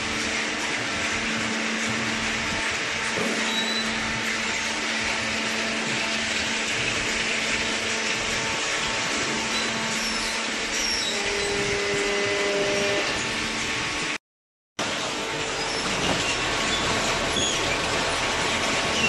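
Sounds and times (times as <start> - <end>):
baler machine whirring hum: 0.0 - 14.2, 14.8 - 19.0.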